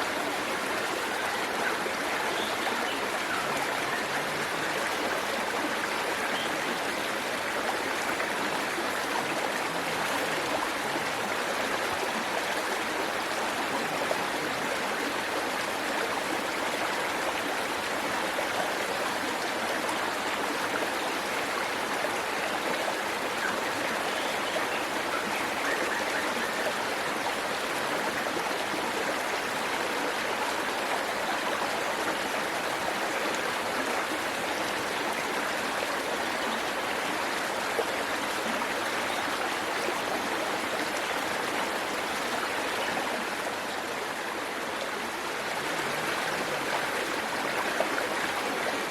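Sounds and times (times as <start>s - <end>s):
waterfall and stream rushing: 0.0s - 48.9s.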